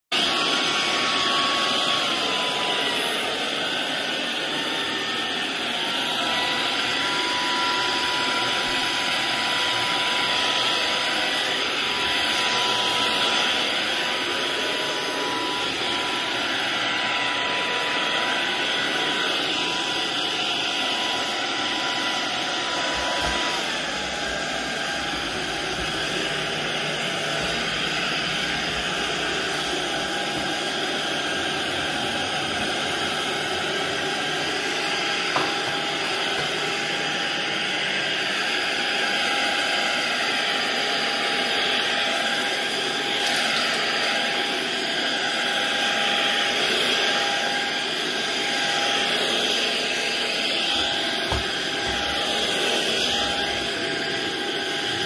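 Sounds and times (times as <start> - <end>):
vacuum cleaner running: 0.1 - 55.0.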